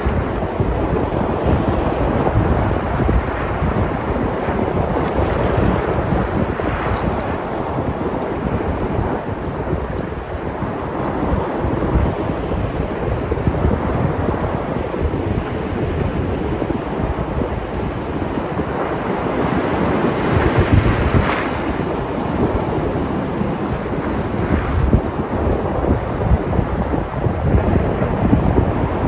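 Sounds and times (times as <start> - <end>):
waves breaking on shore: 0.0 - 29.0
wind buffeting microphone: 0.0 - 29.0.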